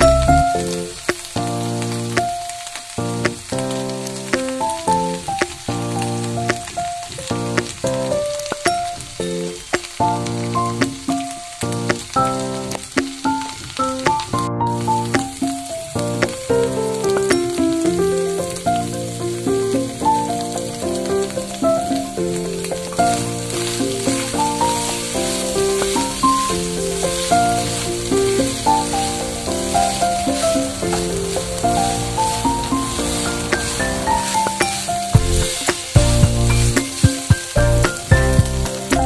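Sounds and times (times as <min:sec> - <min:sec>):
background music: 0:00.0 - 0:39.0
meat sizzling in a frying pan: 0:00.0 - 0:39.0.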